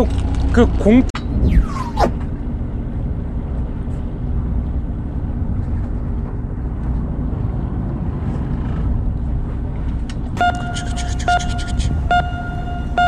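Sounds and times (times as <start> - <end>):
boat engine rumbling: 0.0 - 13.0
wind and water noise: 0.0 - 13.0.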